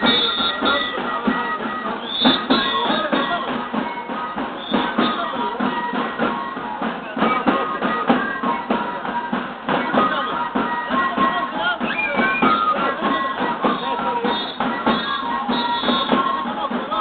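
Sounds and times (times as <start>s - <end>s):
steady drum beat: 0.0s - 17.0s
wind instruments playing melody: 0.0s - 17.0s.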